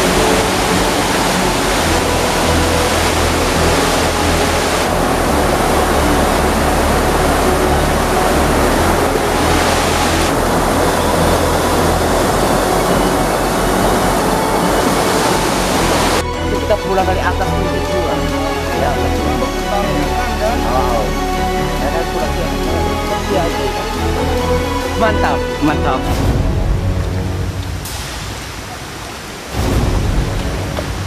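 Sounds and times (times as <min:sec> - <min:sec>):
river rapids rushing over rocks: 0:00.0 - 0:25.1.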